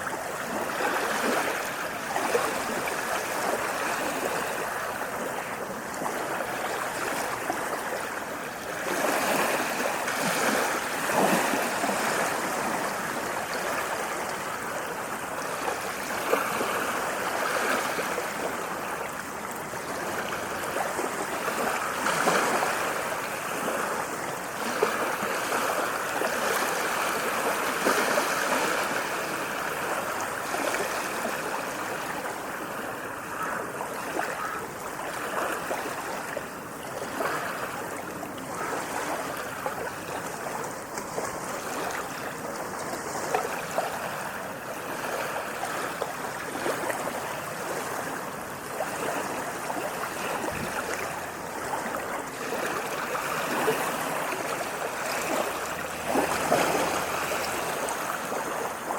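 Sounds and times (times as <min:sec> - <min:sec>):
water rushing and lapping: 0:00.0 - 0:58.9.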